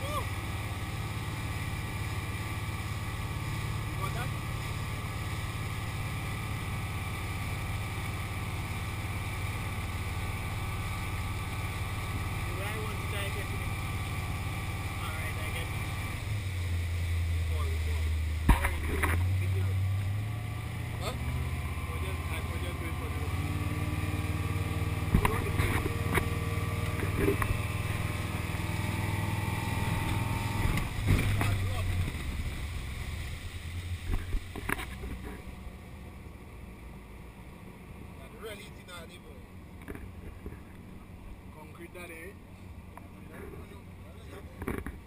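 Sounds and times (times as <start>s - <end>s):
water churning in wake: 0.0s - 38.8s
speedboat engine humming: 0.0s - 45.0s.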